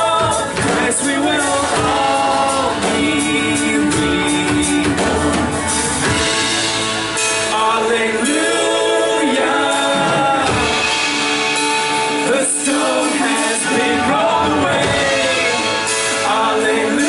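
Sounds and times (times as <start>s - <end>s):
person singing: 0.0s - 17.0s
worship band playing: 0.0s - 17.0s.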